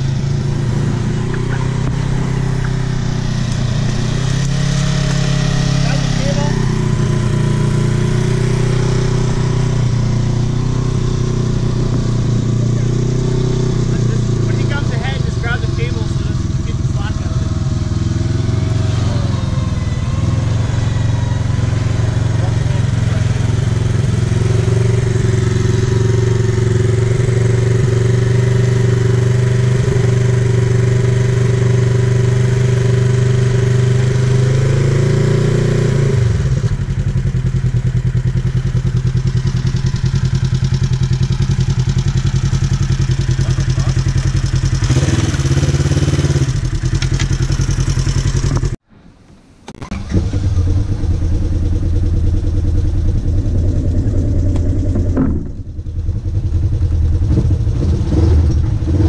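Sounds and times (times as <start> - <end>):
off-road vehicle engine running: 0.0 - 48.8, 49.7 - 59.0.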